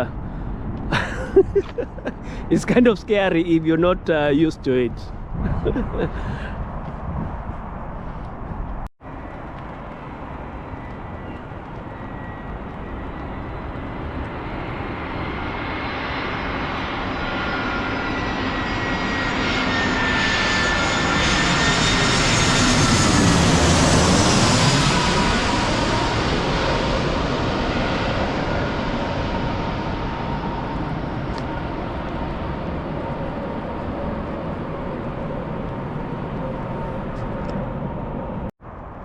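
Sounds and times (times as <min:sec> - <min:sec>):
airliner engine rumble with whine: 0:00.0 - 0:39.0.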